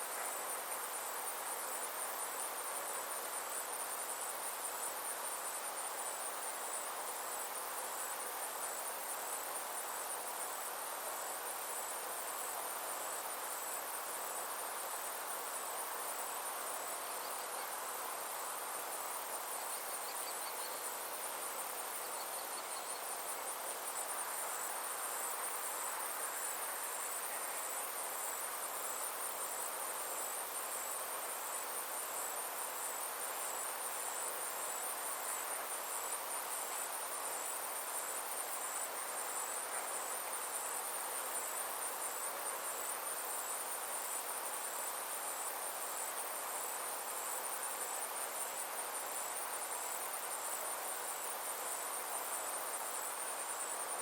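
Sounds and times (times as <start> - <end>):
insects trilling: 0.0 - 54.0
soft even hiss: 0.0 - 54.0.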